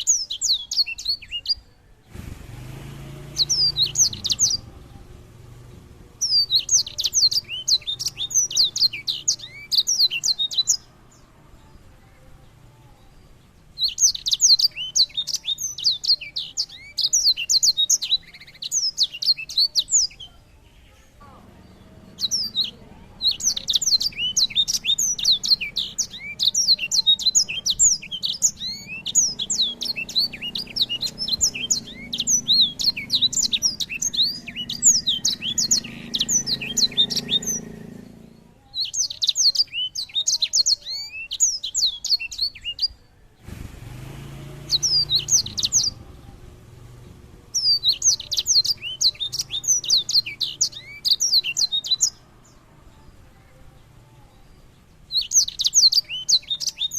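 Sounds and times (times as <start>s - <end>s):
songbird chirps and trills: 0.0s - 56.9s.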